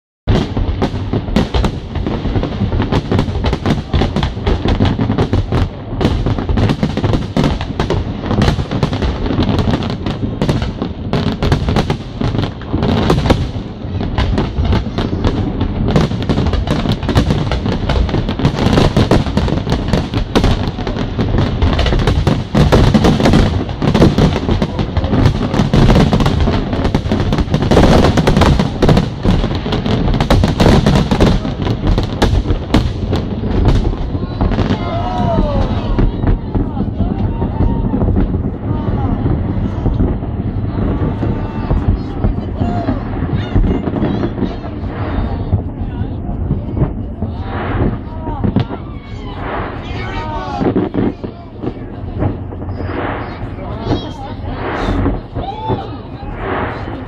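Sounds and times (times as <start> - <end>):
fireworks bursts and crackles: 0.3 - 57.0.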